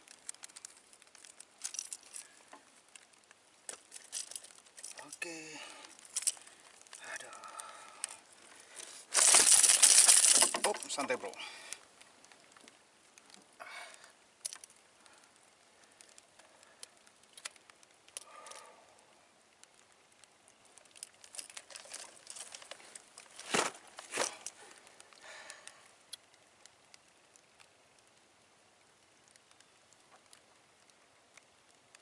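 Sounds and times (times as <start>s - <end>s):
fishing gear rustling and clicking: 0.0s - 18.9s, 19.6s - 28.0s.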